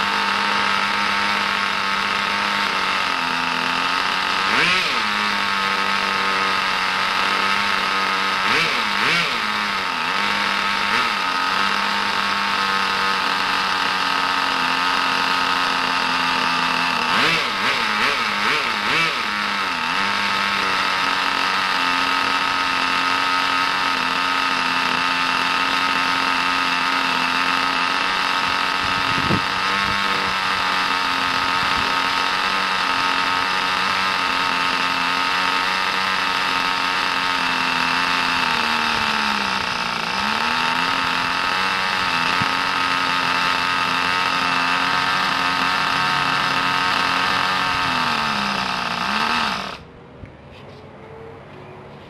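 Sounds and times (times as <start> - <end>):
model car engine running: 0.0 - 49.9.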